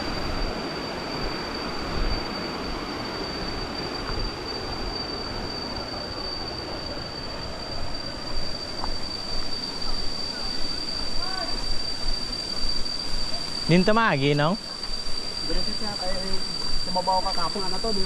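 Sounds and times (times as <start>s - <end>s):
thin high-pitched whine: 0.0s - 18.0s.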